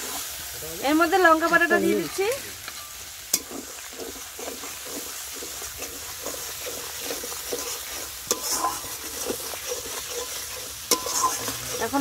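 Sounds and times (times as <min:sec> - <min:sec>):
paste sizzling in hot oil: 0:00.0 - 0:12.0
metal spatula scraping a pan: 0:01.2 - 0:12.0.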